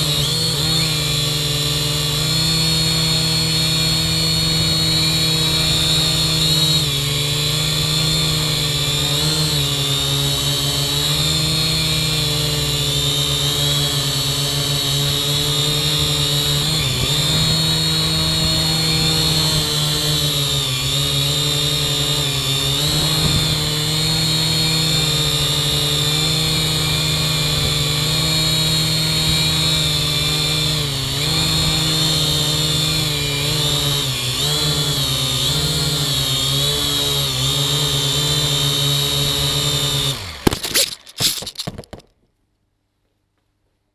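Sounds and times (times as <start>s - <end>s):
drone propellers whirring: 0.0s - 9.8s, 10.9s - 36.1s, 37.5s - 41.7s.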